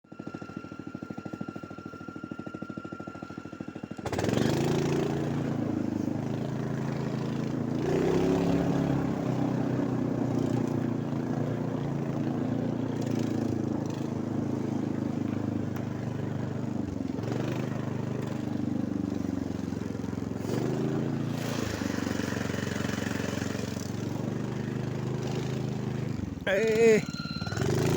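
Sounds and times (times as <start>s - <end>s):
vehicle engine revving: 4.0s - 27.9s.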